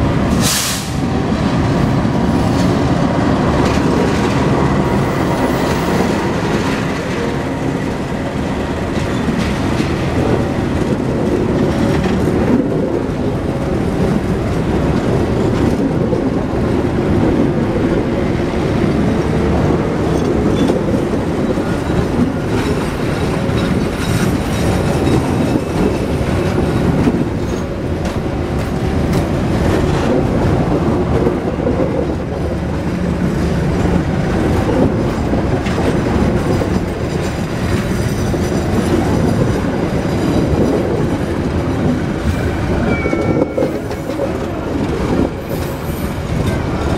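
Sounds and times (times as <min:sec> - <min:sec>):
train coaches rumbling past: 0:00.0 - 0:46.9
wheels clacking over rails: 0:00.0 - 0:46.9.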